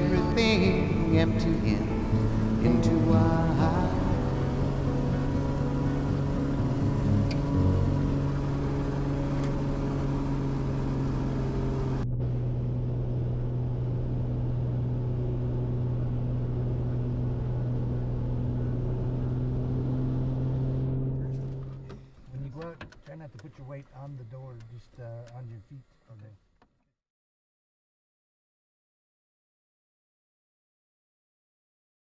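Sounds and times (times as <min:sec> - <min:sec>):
propeller engine droning: 0:00.0 - 0:25.8.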